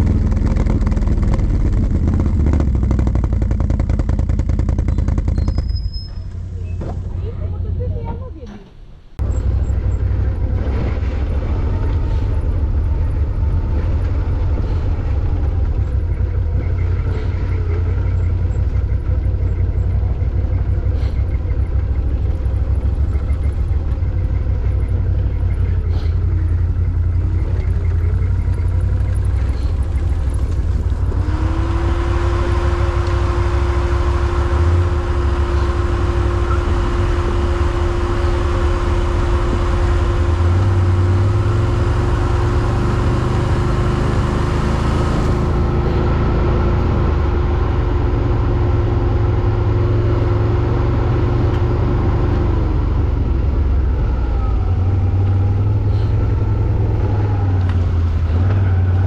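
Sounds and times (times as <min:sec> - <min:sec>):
quad bike engine running: 0:00.0 - 0:08.1, 0:09.2 - 0:59.0.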